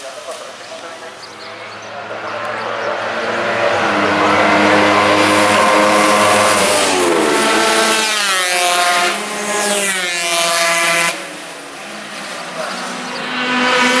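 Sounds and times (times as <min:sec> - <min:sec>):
racing motorcycles passing: 0:00.1 - 0:14.0.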